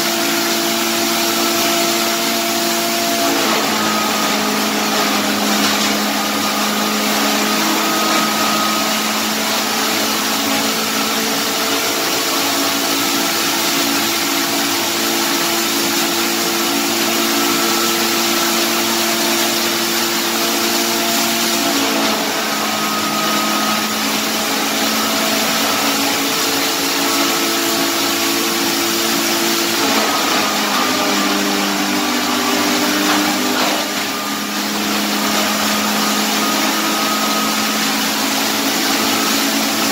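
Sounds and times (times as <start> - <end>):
blower rushing noise: 0.0 - 39.9
hammer mill grinding woodchip: 0.0 - 39.9
motor hum and whine: 0.0 - 39.9.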